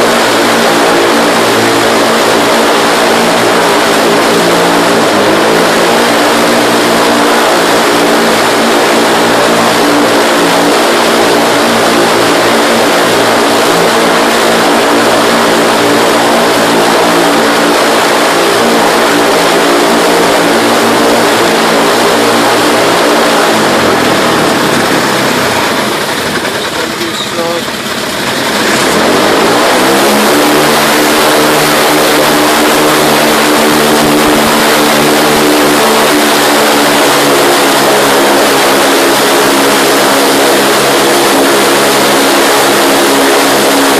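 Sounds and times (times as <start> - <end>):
aircraft engine running: 0.0 - 43.9.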